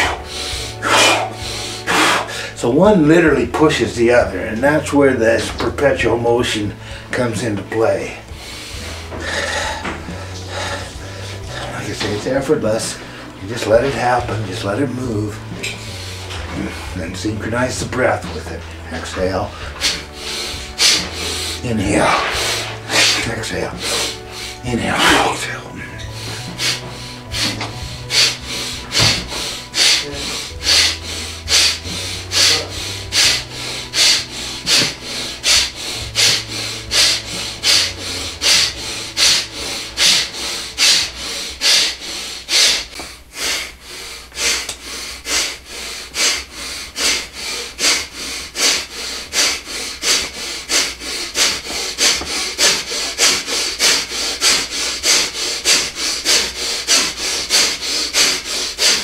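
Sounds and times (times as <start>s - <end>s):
rapid forceful breathing: 0.0s - 59.0s.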